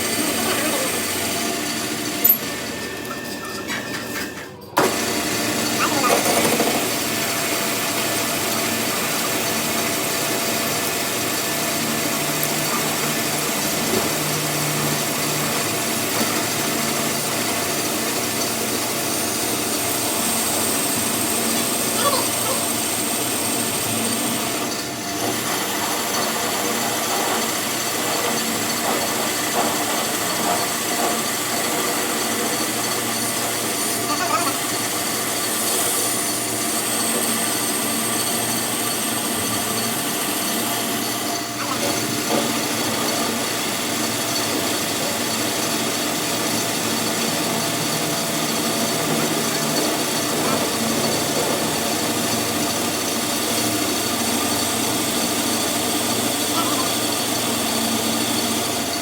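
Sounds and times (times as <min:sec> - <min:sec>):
power tool humming: 0:00.0 - 0:04.2, 0:04.8 - 0:59.0.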